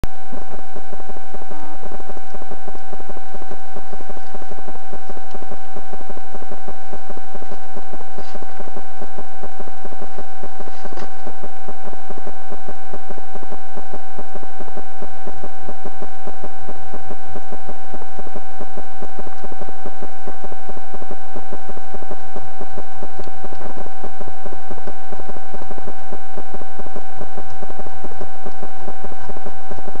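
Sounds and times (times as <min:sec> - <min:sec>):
electronic whine and hiss: 0:00.1 - 0:30.0.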